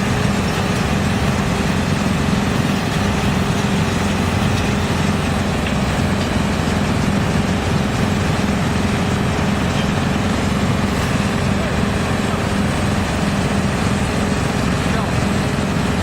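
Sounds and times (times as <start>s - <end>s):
wood chipper drone: 0.0s - 16.0s.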